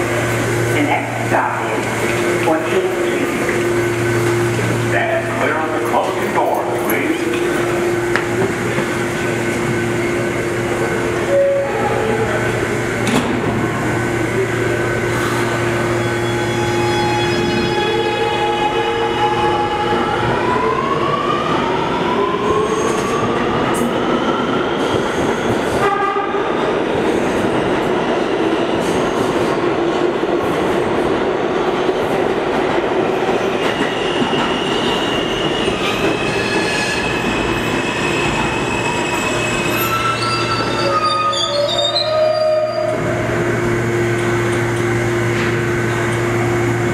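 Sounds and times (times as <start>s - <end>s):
steel wheels rumbling on rail: 0.0s - 46.9s.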